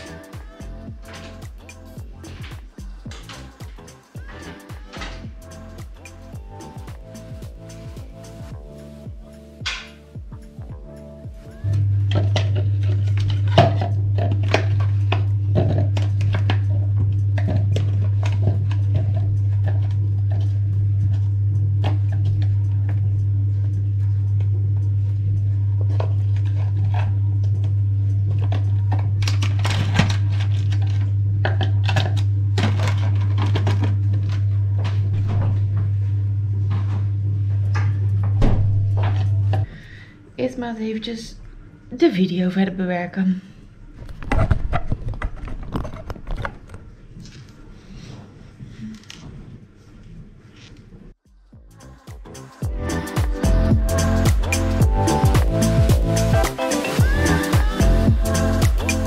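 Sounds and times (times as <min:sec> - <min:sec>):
low electrical hum: 0:00.0 - 0:51.2.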